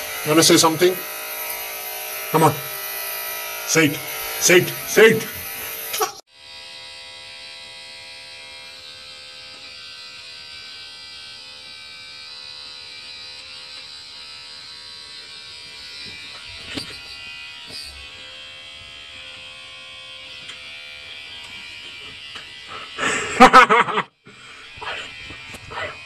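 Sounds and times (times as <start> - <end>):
electric hair trimmer buzzing: 0.0 - 26.0.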